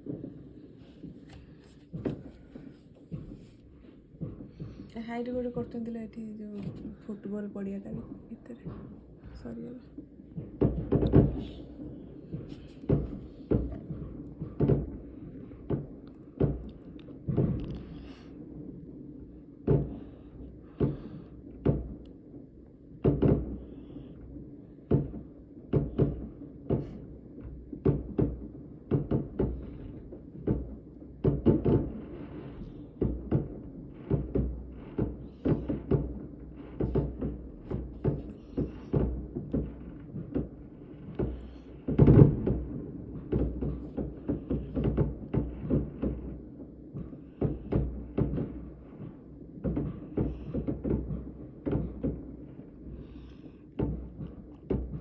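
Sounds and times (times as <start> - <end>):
fireworks bangs with echo: 0.0 - 55.0.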